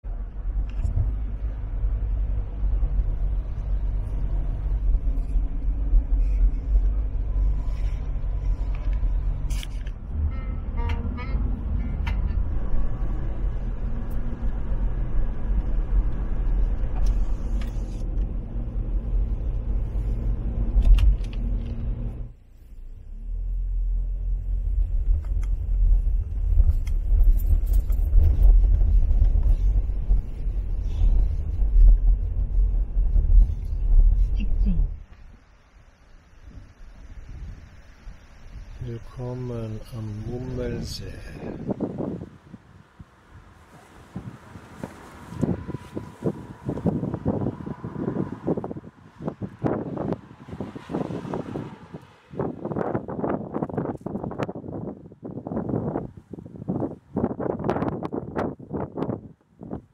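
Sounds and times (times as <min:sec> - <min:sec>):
road rumble inside moving car: 0:00.0 - 0:59.9.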